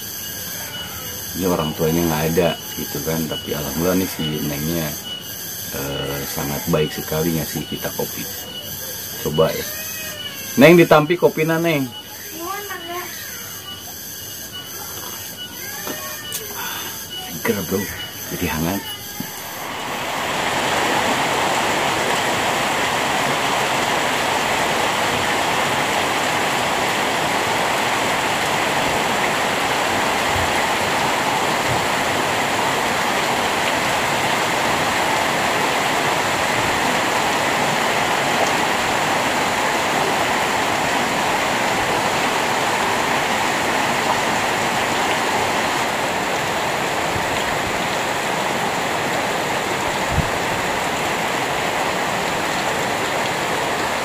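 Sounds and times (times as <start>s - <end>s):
heavy rain on roofs: 0.0s - 54.0s.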